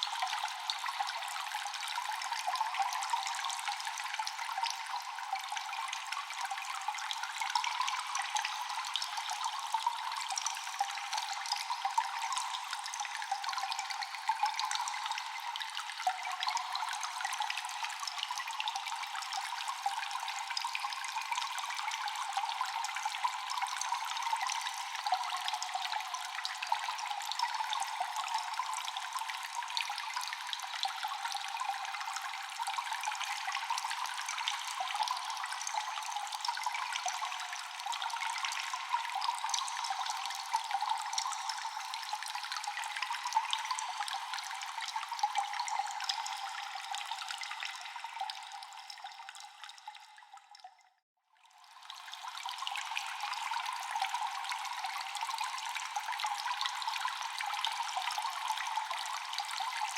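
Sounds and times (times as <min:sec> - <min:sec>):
echoing water drips in cave: 0:00.0 - 0:59.9
water trickling: 0:00.0 - 0:59.9.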